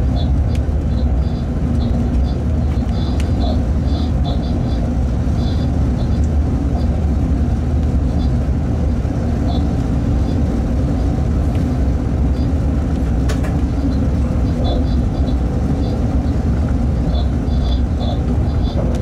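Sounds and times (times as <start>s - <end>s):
locomotive rumble: 0.0s - 19.0s.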